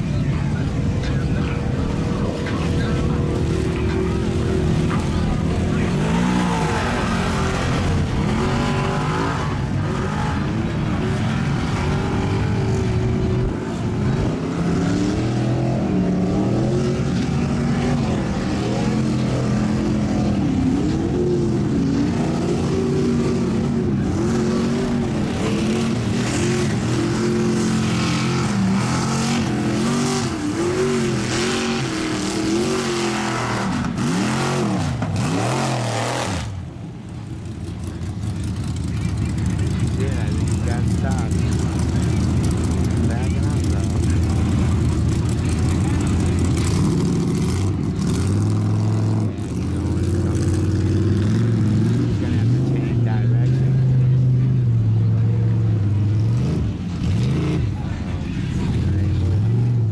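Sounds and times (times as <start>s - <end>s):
engine revving hard: 1.1s - 36.7s, 38.4s - 55.2s, 56.0s - 59.9s.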